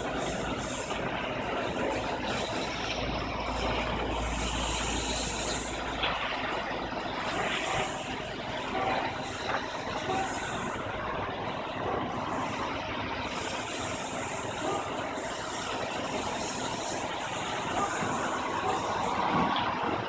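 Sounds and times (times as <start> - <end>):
hose spraying water into metal bin: 0.0 - 19.8
truck engine running: 0.0 - 20.0.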